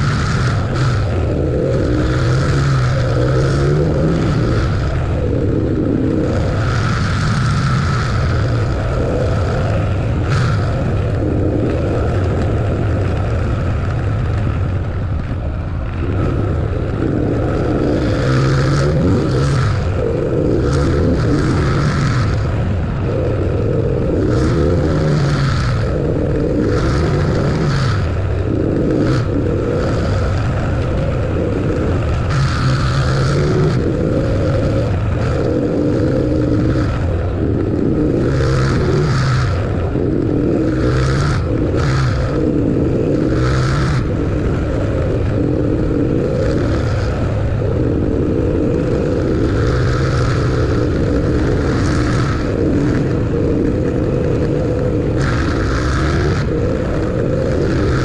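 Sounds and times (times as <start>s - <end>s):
vehicle engine and tyre noise: 0.0s - 58.0s.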